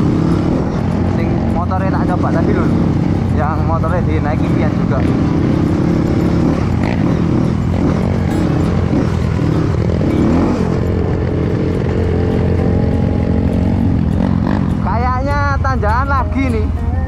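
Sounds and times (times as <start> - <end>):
dirt bike engine revving: 0.0 - 16.7.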